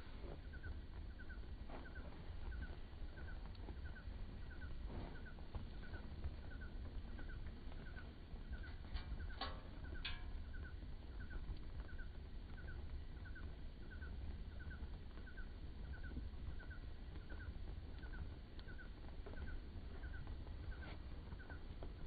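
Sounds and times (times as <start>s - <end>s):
low rumble: 0.0s - 22.0s
small animal chirping: 0.5s - 21.6s.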